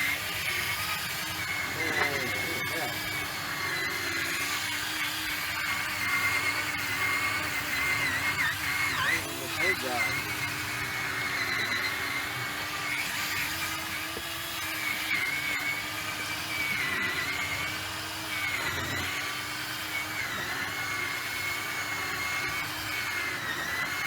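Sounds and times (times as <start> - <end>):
polishing pad on plastic lens: 0.0 - 20.0
cordless drill motor whine: 0.0 - 24.0.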